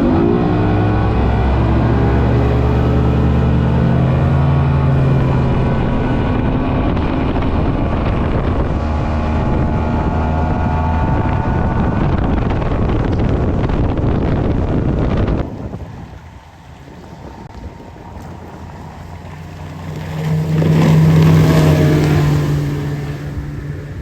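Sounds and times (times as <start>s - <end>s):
outboard motor at high speed: 0.0s - 24.0s
wind on microphone: 0.0s - 24.0s.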